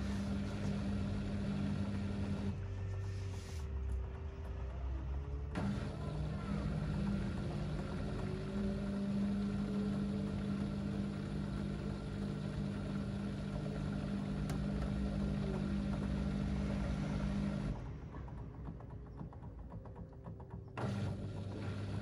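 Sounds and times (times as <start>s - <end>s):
washing machine churning: 0.0s - 3.0s, 5.2s - 22.0s.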